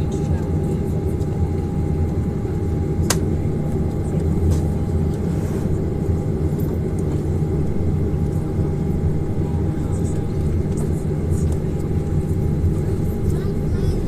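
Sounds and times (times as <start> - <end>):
aircraft cabin rumble: 0.0 - 14.0.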